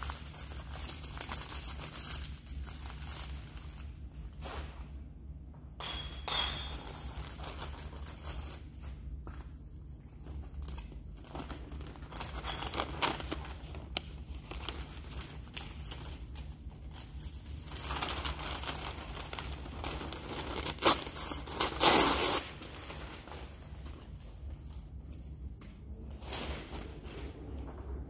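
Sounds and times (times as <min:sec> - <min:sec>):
newspaper rustling and crinkling: 0:00.0 - 0:04.8, 0:07.1 - 0:27.5.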